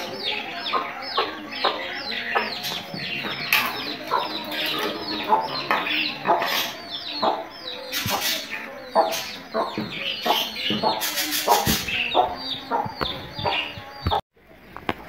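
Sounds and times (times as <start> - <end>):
hen clucking: 0.0 - 14.2
chicks peeping: 0.0 - 15.0.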